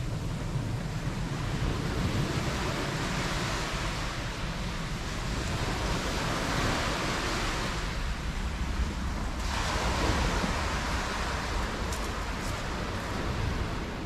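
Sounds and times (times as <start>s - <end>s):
waves washing onto shore: 0.0s - 14.0s.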